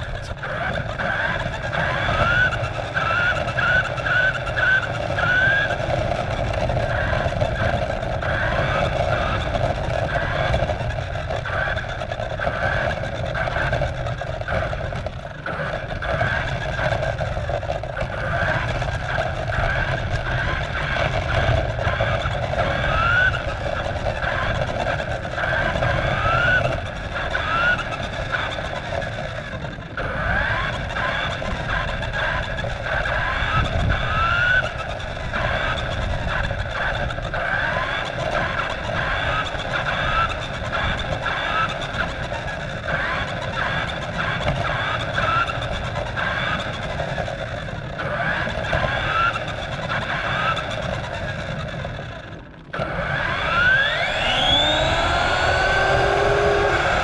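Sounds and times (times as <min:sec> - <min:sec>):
toy car motor whining: 0:00.0 - 0:57.0
tyres rumbling on asphalt: 0:00.0 - 0:57.0.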